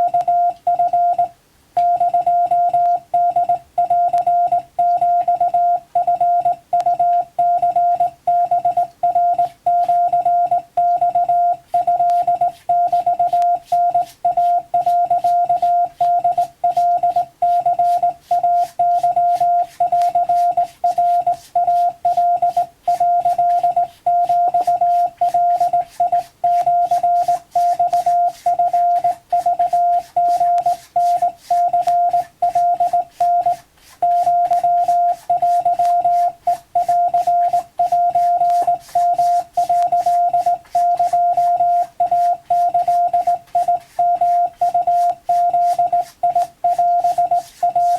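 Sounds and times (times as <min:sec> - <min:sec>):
morse code tone: 0:00.0 - 0:47.9.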